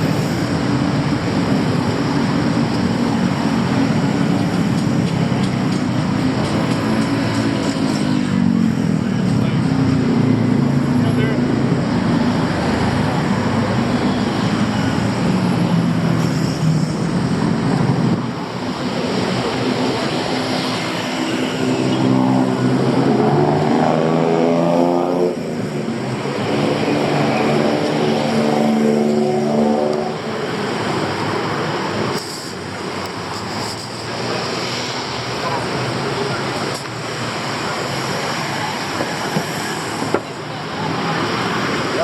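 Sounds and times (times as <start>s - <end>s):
engine speeding up: 0.0s - 42.0s
vehicle engines running: 0.0s - 42.0s.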